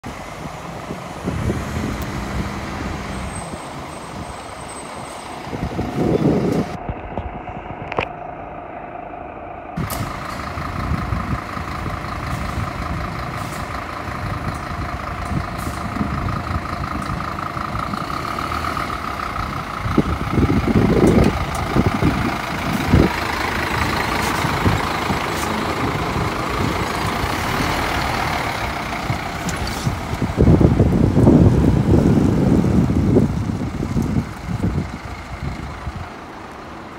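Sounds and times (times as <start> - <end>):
loud low rumbles: 0.0 - 4.6, 5.3 - 36.9
fire truck diesel engine: 0.0 - 36.9.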